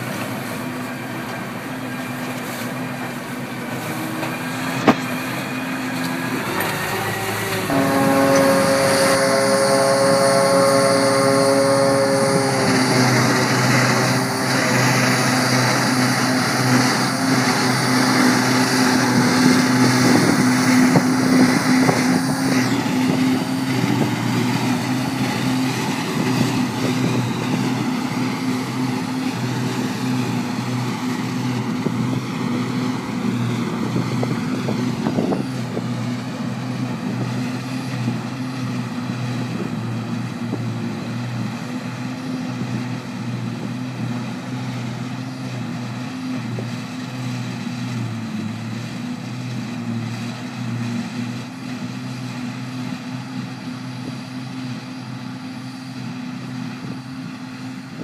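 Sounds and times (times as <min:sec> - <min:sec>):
forage harvester machinery drone: 0:00.0 - 0:58.0
tractor engine: 0:00.0 - 0:58.0.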